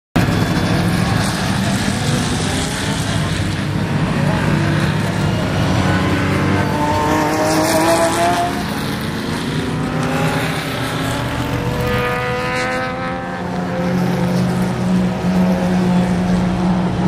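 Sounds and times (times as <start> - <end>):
race car engines accelerating: 0.2 - 17.0.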